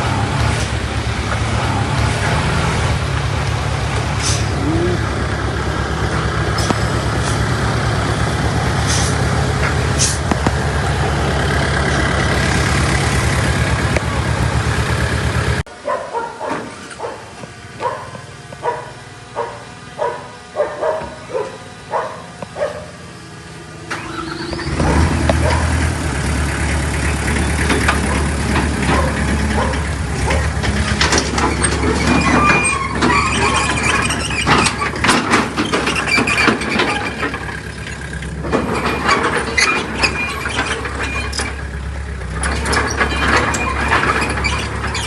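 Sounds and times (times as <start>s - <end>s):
diesel machinery engine running: 0.0s - 45.0s.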